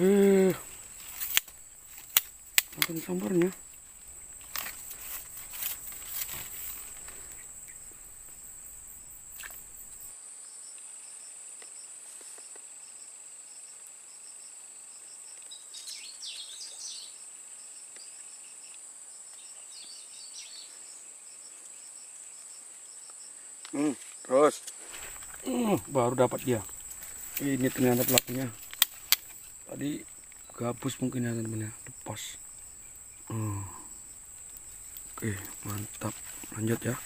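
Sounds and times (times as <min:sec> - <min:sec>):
high-pitched insect whine: 0:00.0 - 0:37.0
insect chirping in pulses: 0:00.0 - 0:37.0.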